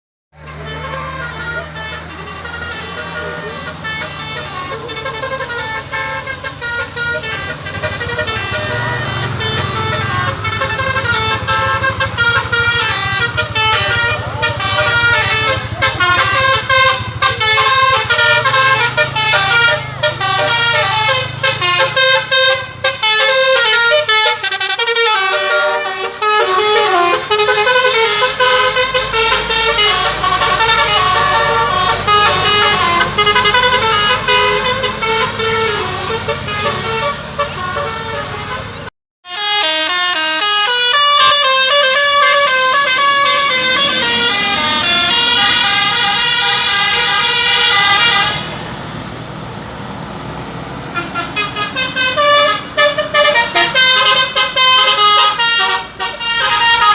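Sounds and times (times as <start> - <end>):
musical air horn melody: 0.4 - 48.6, 50.9 - 56.9
bus engine hum: 0.4 - 56.9.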